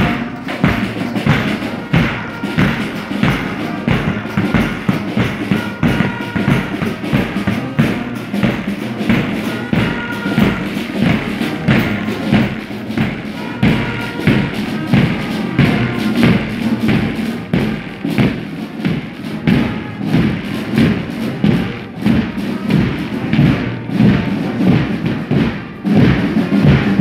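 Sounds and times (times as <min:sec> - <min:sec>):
bass drums beating march rhythm: 0:00.0 - 0:27.0
cymbals crashing: 0:00.0 - 0:27.0.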